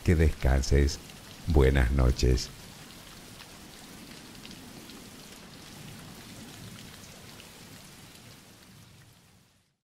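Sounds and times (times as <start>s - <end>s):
steady rain falling: 0.0s - 9.8s.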